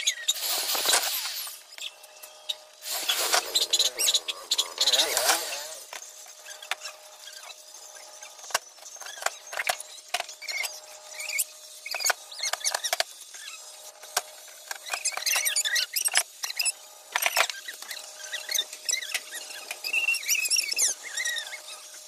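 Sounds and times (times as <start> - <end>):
high wavering squeaks: 0.0 - 13.9, 14.8 - 22.0.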